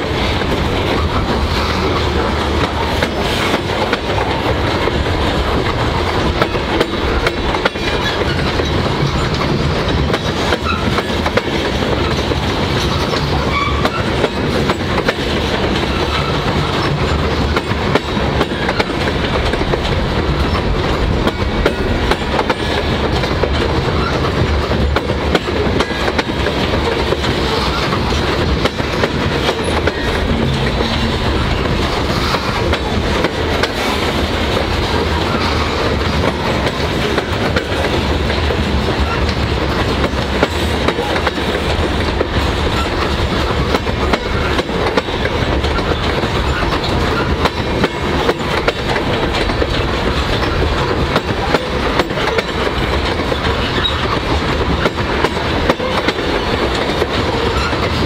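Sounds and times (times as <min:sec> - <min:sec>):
steel wheels clattering on rails: 0:00.0 - 0:58.0
train rumbling past: 0:00.0 - 0:58.0.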